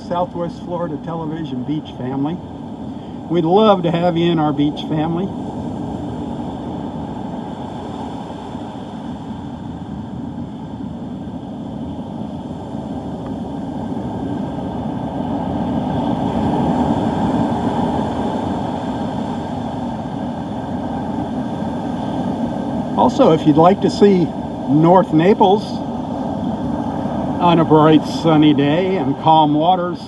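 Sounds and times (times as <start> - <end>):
wind noise on microphone: 0.0 - 30.0.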